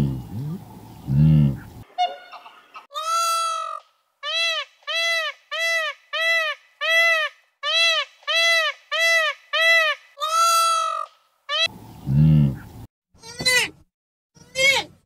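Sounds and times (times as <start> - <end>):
peacock calling: 0.0 - 13.7.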